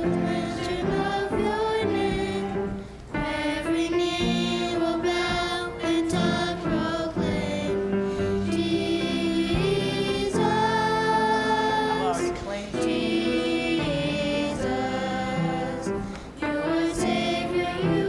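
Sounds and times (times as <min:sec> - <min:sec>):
choir singing gospel song: 0:00.0 - 0:18.0
musical accompaniment: 0:00.0 - 0:18.0.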